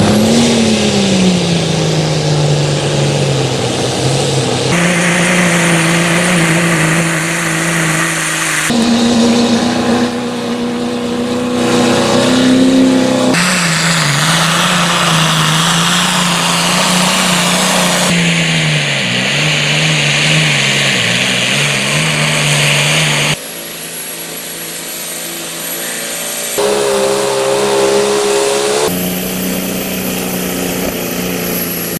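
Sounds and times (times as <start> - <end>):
diesel engines running under load: 0.0 - 31.9.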